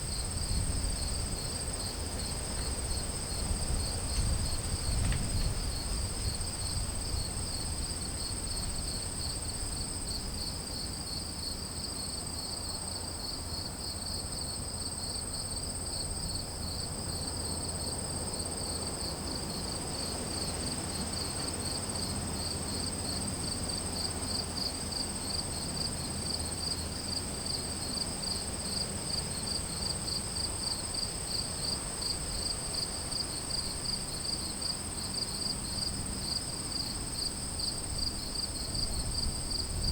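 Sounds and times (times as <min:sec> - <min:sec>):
pulsing cricket chirps: 0:00.0 - 0:39.9.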